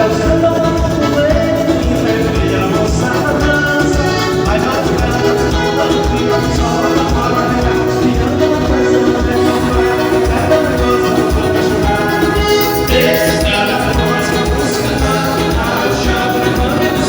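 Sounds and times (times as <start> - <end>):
band music: 0.0 - 17.0
steady bass beat: 0.2 - 17.0.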